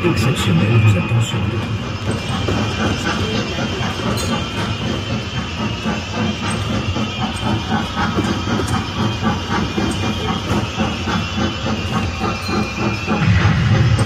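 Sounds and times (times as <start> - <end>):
steam-like hiss: 0.0 - 14.0
train clatter: 0.0 - 14.0.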